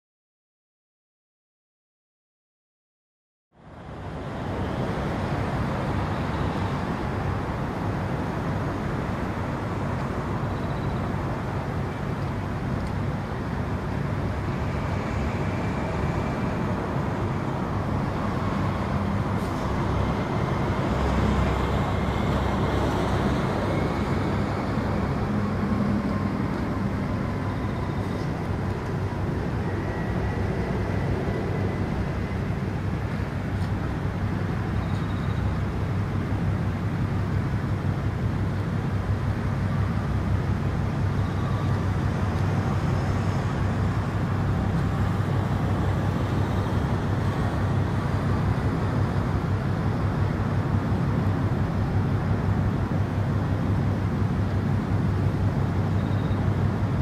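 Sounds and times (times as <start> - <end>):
low mechanical drone: 3.5 - 57.0
outdoor noise: 3.5 - 57.0.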